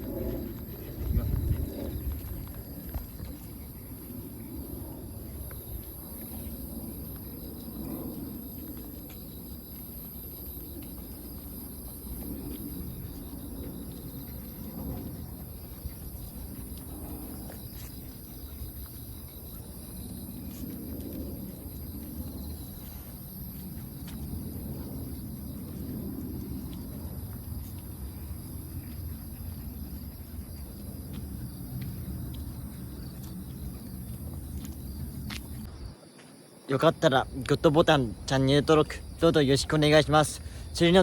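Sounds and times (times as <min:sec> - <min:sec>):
low wind rumble: 0:00.0 - 0:36.0
insects chirring: 0:00.0 - 0:41.0.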